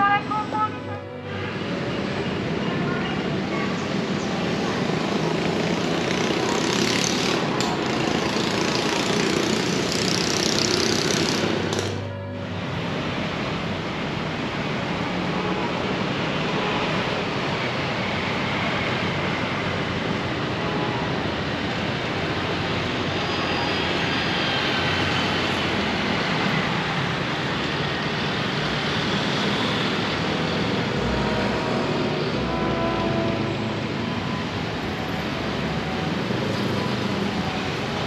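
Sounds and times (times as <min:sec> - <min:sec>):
road traffic hum: 0:00.0 - 0:38.0.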